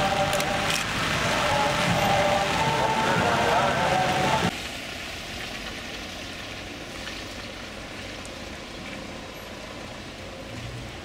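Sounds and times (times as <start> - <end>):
light rain: 0.0 - 11.0
traffic on a wet road: 0.0 - 11.0.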